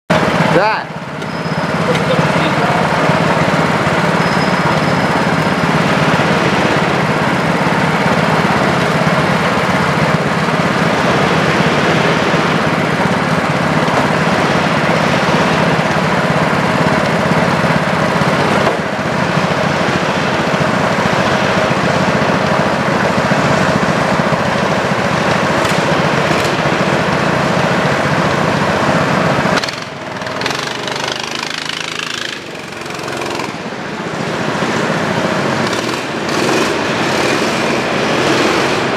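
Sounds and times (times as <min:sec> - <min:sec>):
go-kart engines idling: 0:00.1 - 0:38.9.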